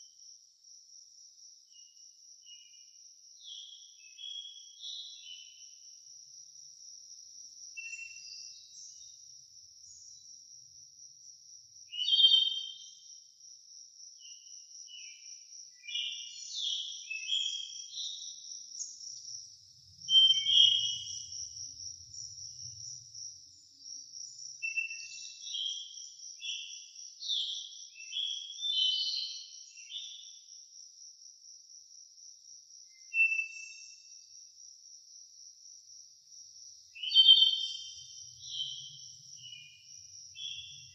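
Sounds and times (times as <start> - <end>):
songbirds singing: 0.0 - 13.3, 14.0 - 30.9, 32.4 - 34.4, 35.6 - 40.9
high-pitched insect trill: 0.0 - 40.9.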